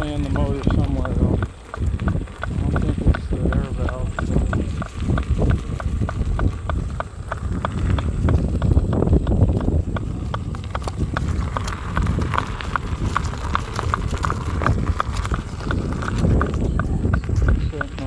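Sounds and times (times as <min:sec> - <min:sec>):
low rumble: 0:00.0 - 0:18.0
motor knocking rhythmically: 0:00.0 - 0:18.0.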